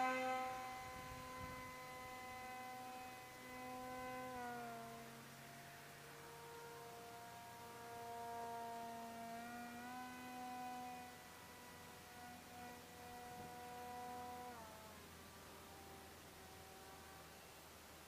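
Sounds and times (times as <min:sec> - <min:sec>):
distant model airplane motor whine: 0:00.0 - 0:18.0.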